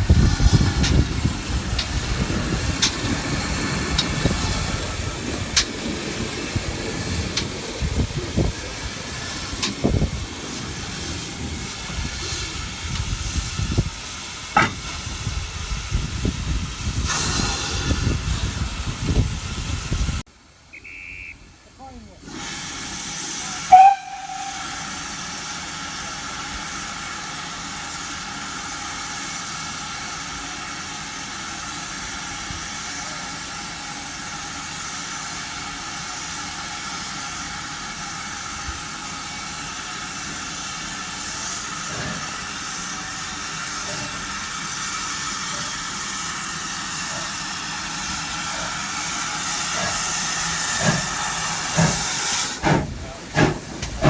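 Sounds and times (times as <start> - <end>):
steam locomotive hissing: 0.0 - 20.2, 21.8 - 54.0.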